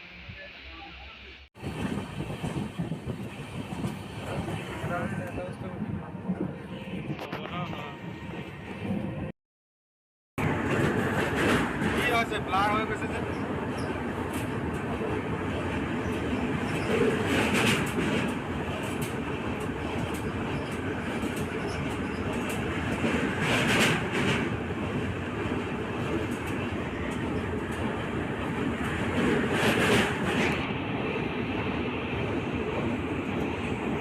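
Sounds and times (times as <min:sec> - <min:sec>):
train wheels rumbling on rails: 0:01.6 - 0:09.3, 0:10.4 - 0:34.0.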